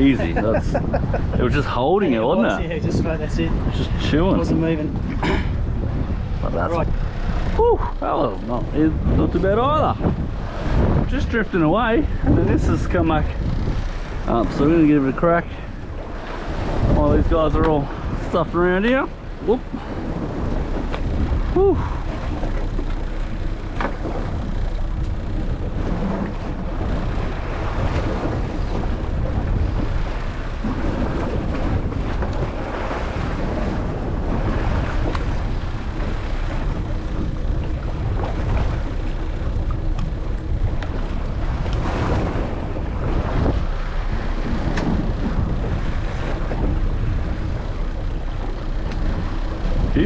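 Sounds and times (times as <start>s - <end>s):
boat motor running: 0.0s - 50.0s
waves splashing against hull: 0.0s - 50.0s
wind buffeting microphone: 0.0s - 50.0s.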